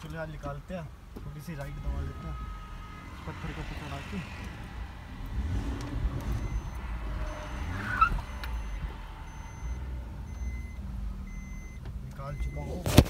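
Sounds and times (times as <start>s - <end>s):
car engine rumbling in cabin: 0.0s - 13.0s.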